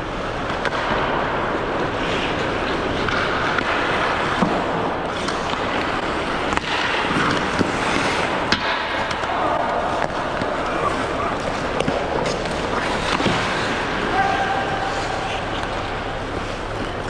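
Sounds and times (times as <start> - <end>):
hockey sticks and puck clacking: 0.0 - 17.0
skates scraping on ice: 0.0 - 17.0.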